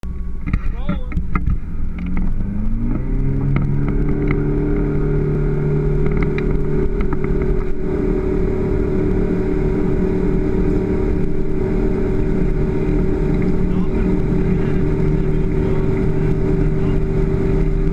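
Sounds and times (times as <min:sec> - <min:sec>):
motorboat engine: 0:00.0 - 0:17.9.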